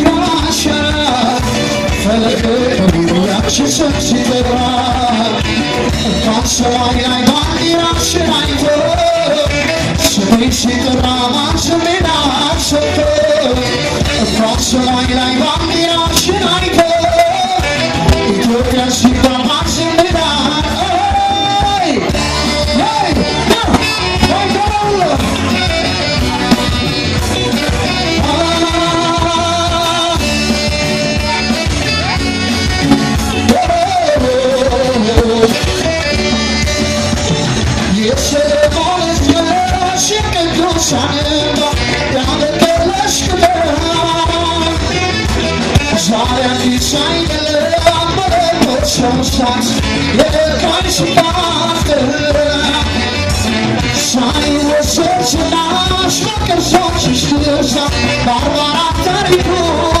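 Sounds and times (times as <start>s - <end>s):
band playing pop song: 0.0s - 60.0s
person singing: 0.0s - 60.0s
steady drum beat: 0.0s - 60.0s.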